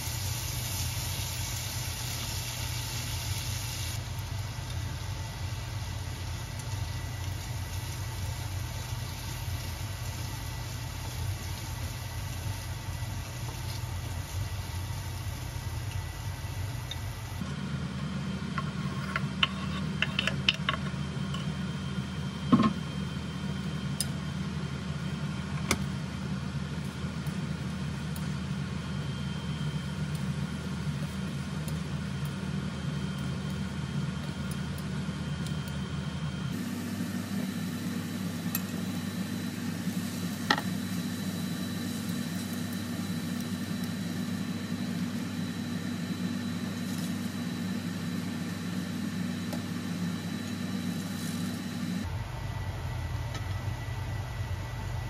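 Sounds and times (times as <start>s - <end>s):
low mechanical kitchen hum: 0.0s - 55.0s.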